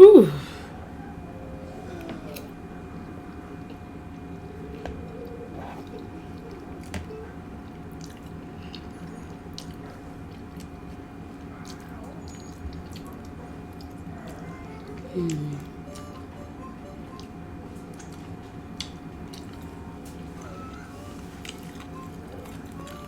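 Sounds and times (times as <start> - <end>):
faint hum: 0.0 - 23.0
chewing and wet mouth sounds: 1.8 - 23.0.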